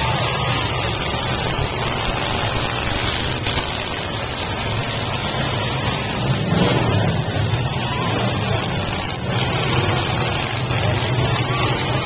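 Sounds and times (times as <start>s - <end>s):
car engines running roughly: 0.0s - 12.0s.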